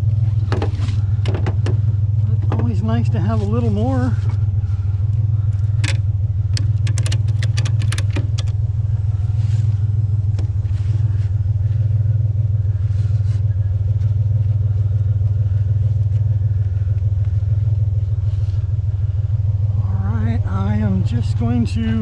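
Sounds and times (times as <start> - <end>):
faint rattles: 0.0 - 22.0
vehicle engine idling: 0.0 - 22.0.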